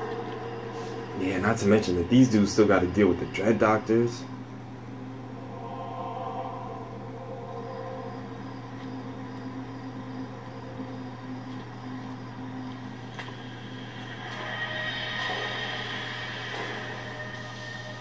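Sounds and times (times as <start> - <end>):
suspense music droning tones: 0.0 - 18.0.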